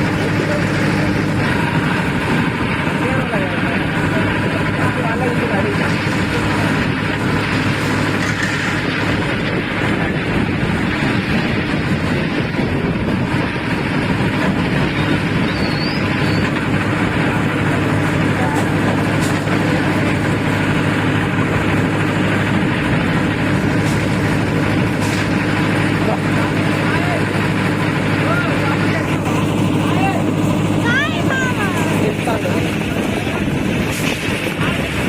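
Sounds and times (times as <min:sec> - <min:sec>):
concrete mixer engine humming: 0:00.0 - 0:35.0
mixer drum churning concrete: 0:00.0 - 0:35.0.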